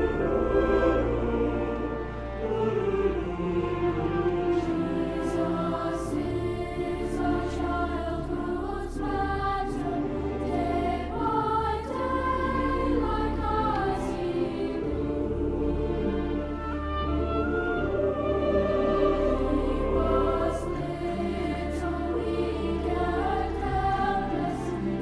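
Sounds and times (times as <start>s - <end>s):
choir singing sustained chords: 0.0s - 25.0s
orchestral strings: 0.0s - 25.0s.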